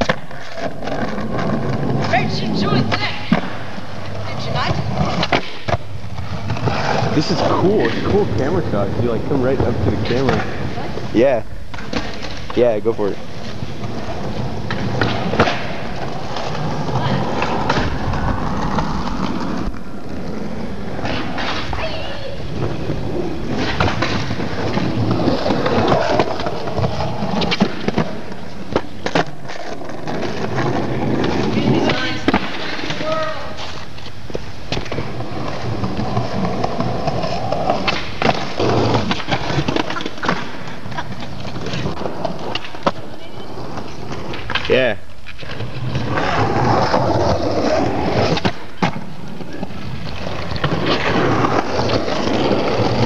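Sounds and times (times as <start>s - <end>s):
sharp skateboard clack: 0.0s - 8.4s, 14.6s - 19.9s, 20.9s - 53.0s
skateboard wheels rolling on concrete: 0.0s - 53.0s.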